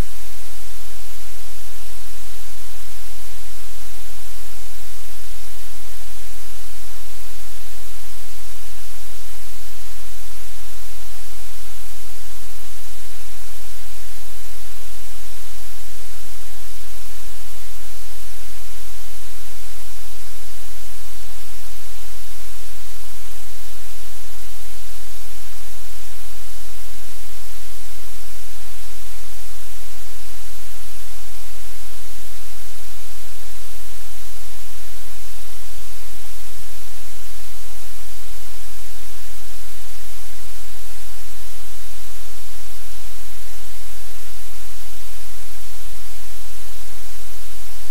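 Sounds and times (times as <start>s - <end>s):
loud static hiss: 0.0s - 47.9s.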